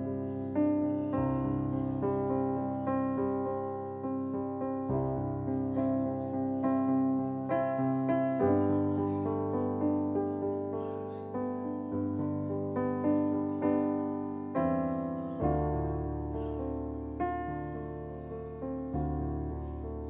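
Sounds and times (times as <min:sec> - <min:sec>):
electric keyboard playing chords: 0:00.0 - 0:20.0.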